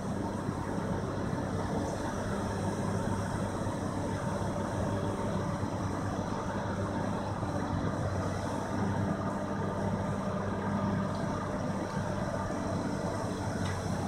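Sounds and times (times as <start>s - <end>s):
diesel engines idling: 0.0s - 14.0s.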